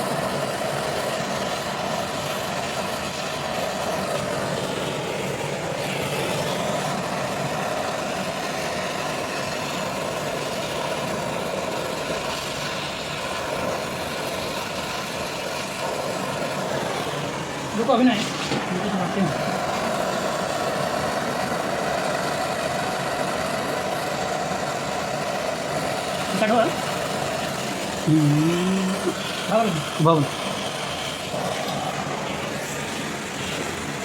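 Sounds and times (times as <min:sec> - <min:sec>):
torch flame hissing: 0:00.0 - 0:34.0.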